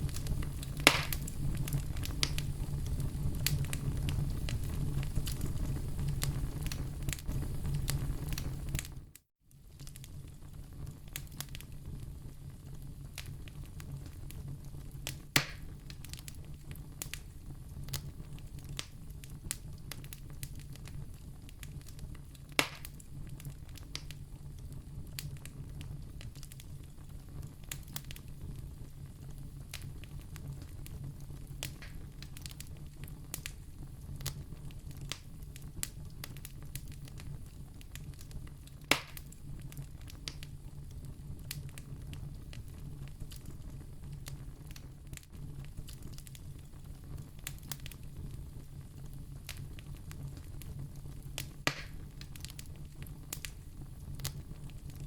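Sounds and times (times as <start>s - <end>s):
campfire crackling: 0.0s - 9.0s, 9.6s - 55.0s
loud fire pops: 0.0s - 9.1s, 9.7s - 55.0s.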